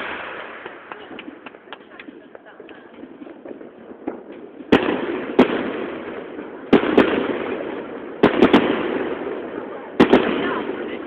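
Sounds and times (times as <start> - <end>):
crackling hiss: 0.0 - 10.2
firework shells bursting: 0.0 - 10.9.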